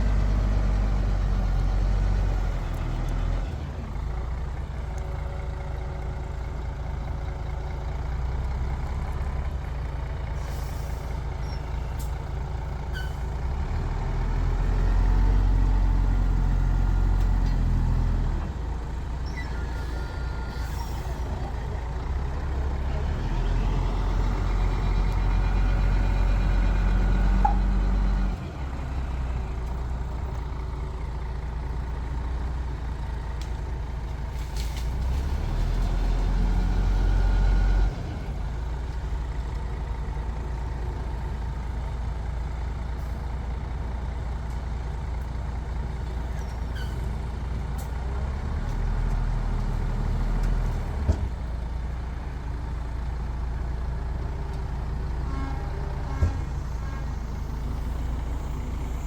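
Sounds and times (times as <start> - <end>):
heavy diesel engines rumbling: 0.0 - 59.0.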